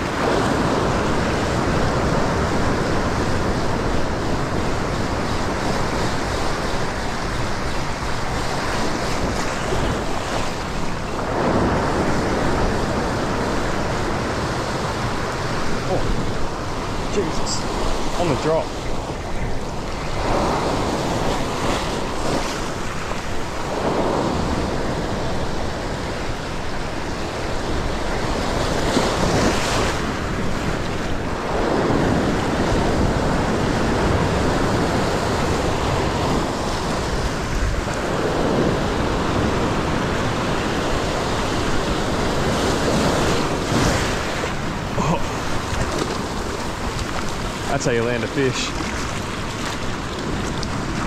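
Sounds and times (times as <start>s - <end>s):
ocean waves washing over rocks: 0.0s - 51.0s.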